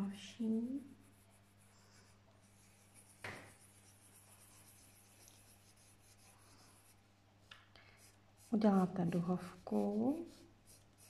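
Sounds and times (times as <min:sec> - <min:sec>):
pencil scratching on paper: 0:00.6 - 0:07.2, 0:07.9 - 0:11.0.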